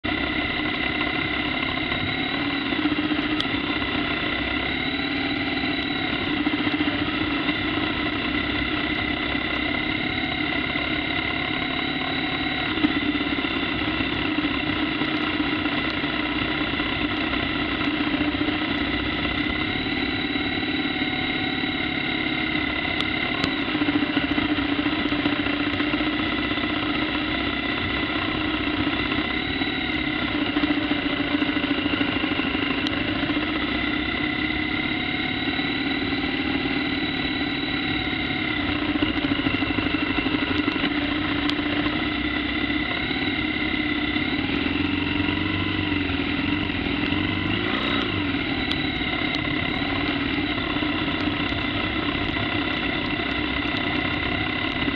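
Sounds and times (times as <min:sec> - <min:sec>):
motorcycle engine running: 0:00.0 - 0:54.9
riding noise drone: 0:00.0 - 0:54.9.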